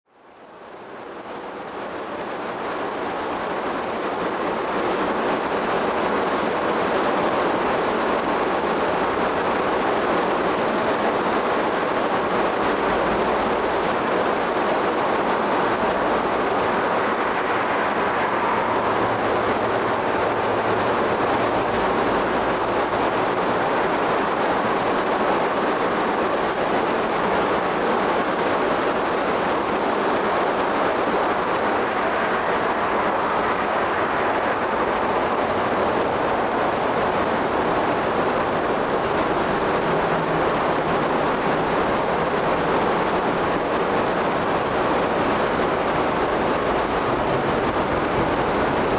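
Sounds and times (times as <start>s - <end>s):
stream rushing: 0.8s - 48.9s.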